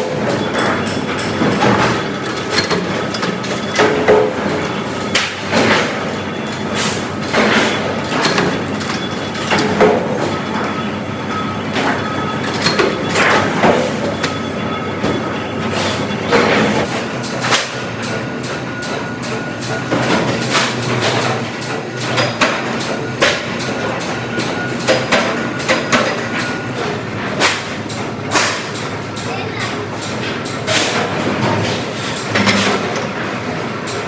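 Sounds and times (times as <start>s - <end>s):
factory machinery running: 0.0s - 34.0s.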